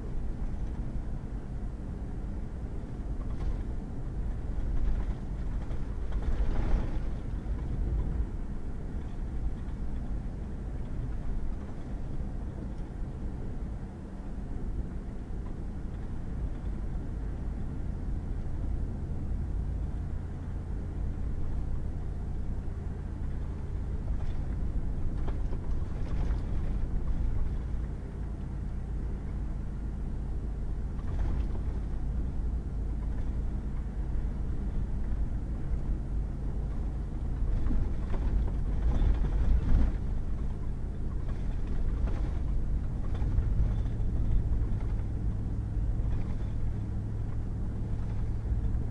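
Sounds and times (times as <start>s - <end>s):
truck engine and tyre rumble: 0.0s - 48.9s.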